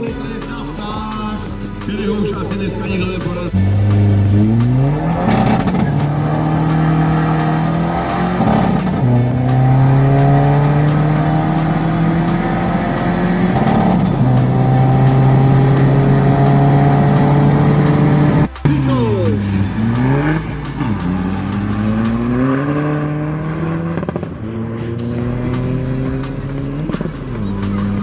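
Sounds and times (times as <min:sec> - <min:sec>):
diesel engine accelerating hard: 0:00.0 - 0:28.0
gear changes: 0:01.4 - 0:28.0.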